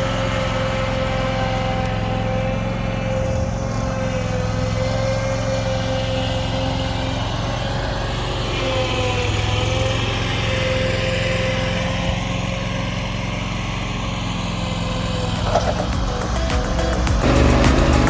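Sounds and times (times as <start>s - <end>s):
small engine running steadily: 0.0s - 18.0s.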